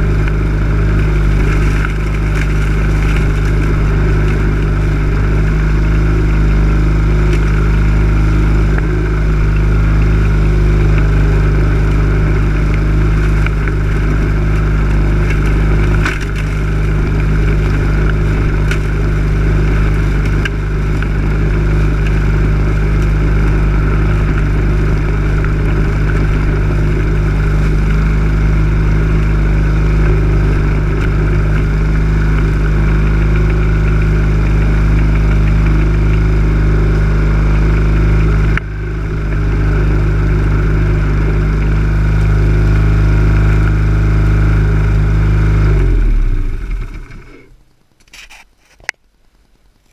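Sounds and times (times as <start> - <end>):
lawn mower engine running: 0.0 - 48.8.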